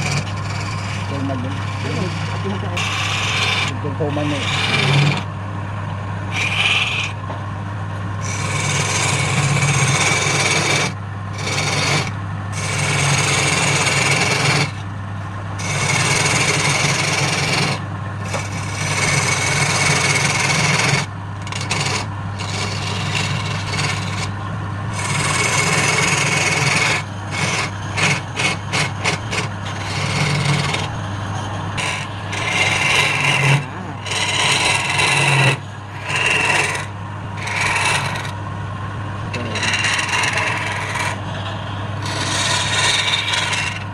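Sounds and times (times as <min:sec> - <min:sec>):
tool scraping spinning wood: 0:00.0 - 0:05.4, 0:06.0 - 0:14.9, 0:15.5 - 0:38.5, 0:39.1 - 0:43.9
wood lathe humming: 0:00.0 - 0:43.9.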